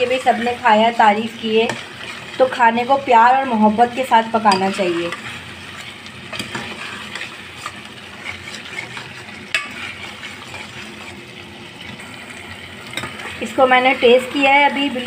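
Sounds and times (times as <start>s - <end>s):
metal ladle scraping a pot: 0.0s - 3.4s, 4.1s - 15.0s
curry sizzling in a pot: 0.0s - 15.0s.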